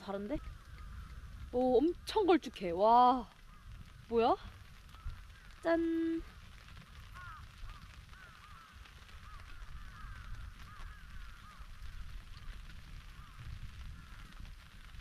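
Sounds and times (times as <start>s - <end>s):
birds calling: 0.0s - 2.5s, 4.8s - 14.4s.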